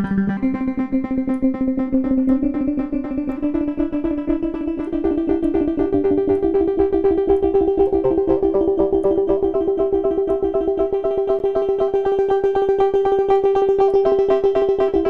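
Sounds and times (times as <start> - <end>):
ambient synth plucked chords: 0.0 - 15.0.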